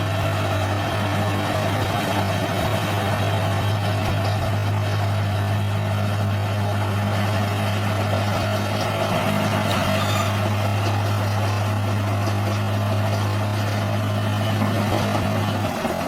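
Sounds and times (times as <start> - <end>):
heavy machine diesel engine: 0.0 - 16.0.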